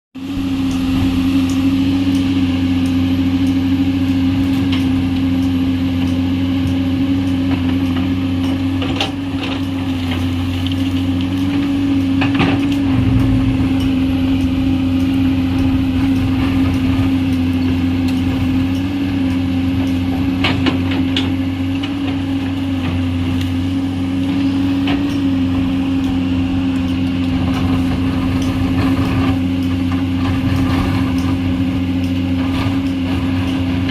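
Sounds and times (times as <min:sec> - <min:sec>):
excavator diesel engine running: 0:00.2 - 0:33.9.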